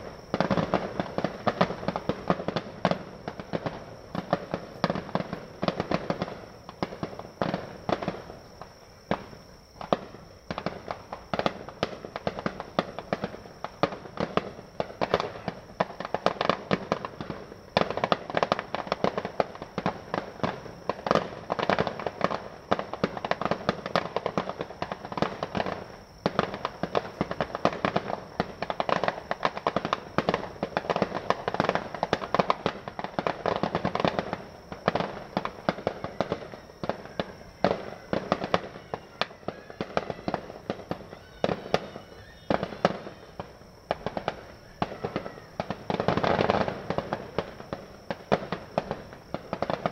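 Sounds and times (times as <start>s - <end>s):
fireworks crackling and popping: 0.0s - 49.9s.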